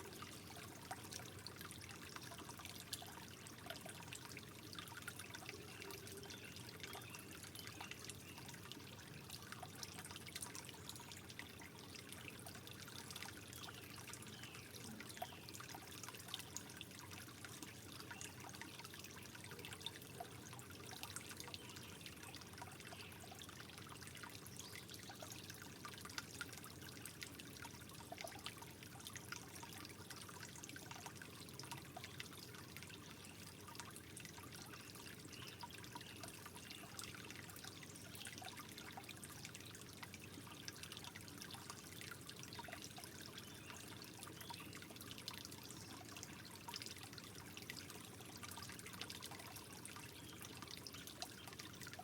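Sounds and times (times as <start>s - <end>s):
water trickling: 0.0s - 52.0s.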